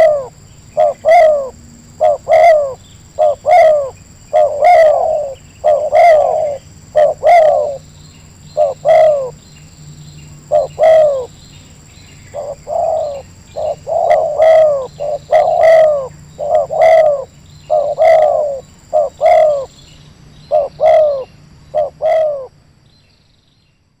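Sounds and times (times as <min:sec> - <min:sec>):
dove cooing: 0:00.0 - 0:09.4, 0:10.4 - 0:11.4, 0:12.2 - 0:19.8, 0:20.5 - 0:22.5.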